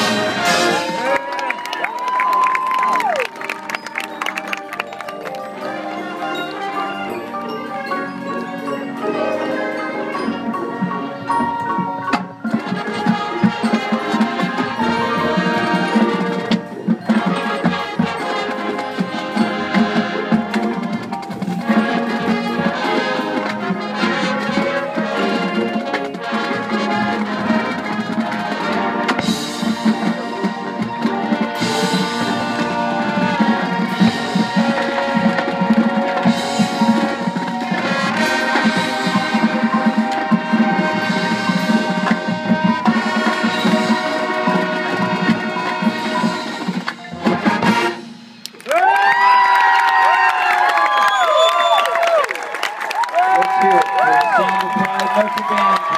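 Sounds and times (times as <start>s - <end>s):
drums: 0.0s - 55.9s
marching band playing: 0.0s - 55.9s
mallet percussion: 2.0s - 48.5s.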